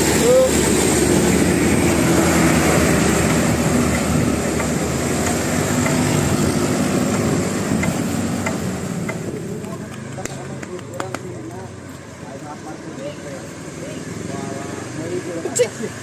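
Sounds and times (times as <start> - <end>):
bus engine running: 0.0 - 16.0
road noise: 0.0 - 16.0.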